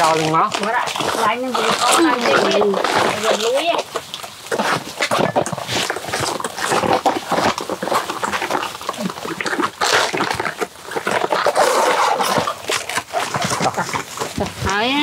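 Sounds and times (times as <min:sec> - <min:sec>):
tearing fibrous plant layers: 0:00.0 - 0:15.0.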